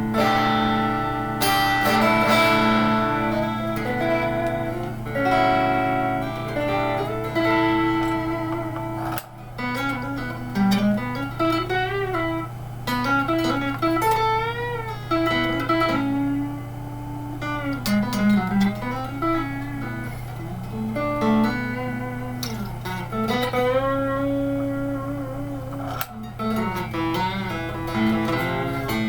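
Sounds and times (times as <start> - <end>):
electric guitar lead lines: 0.0 - 29.0
low amplifier hum: 0.0 - 29.0.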